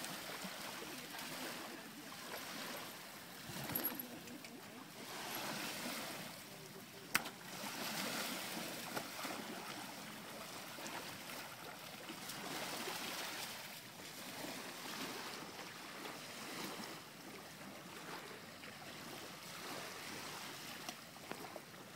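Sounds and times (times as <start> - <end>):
small waves washing onto beach: 0.0 - 21.9.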